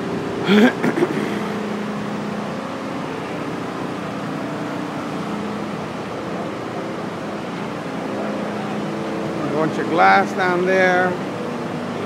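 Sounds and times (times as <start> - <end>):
city street noise: 0.0 - 12.0
diesel engines idling: 0.0 - 12.0.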